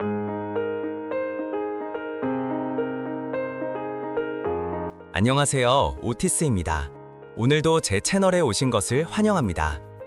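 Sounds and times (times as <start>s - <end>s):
soft electric piano music: 0.0s - 10.0s.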